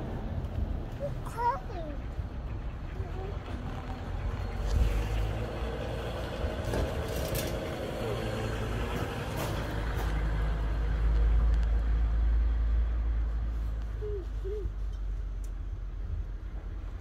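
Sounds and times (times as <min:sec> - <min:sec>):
motor vehicle rumbling: 0:00.0 - 0:17.0.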